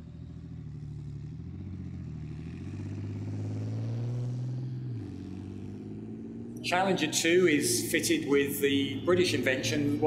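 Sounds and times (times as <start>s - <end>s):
tank diesel engine running: 0.0s - 10.0s.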